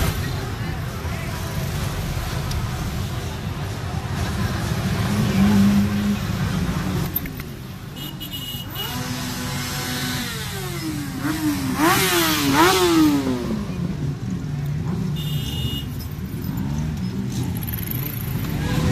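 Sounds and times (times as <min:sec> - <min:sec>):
motorcycle revving: 0:00.0 - 0:18.9
motorcycles idling and rolling past: 0:00.0 - 0:18.9.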